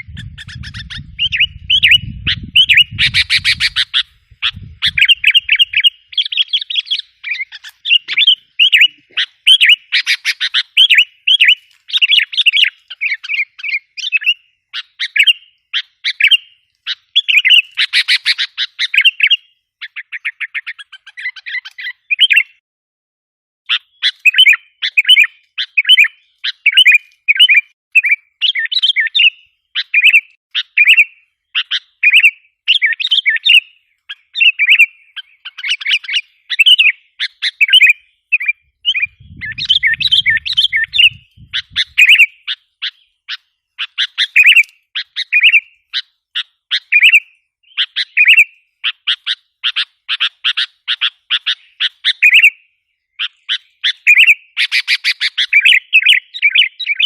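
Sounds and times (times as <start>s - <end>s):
bulbuls chirping: 0.0s - 22.6s, 23.7s - 57.0s.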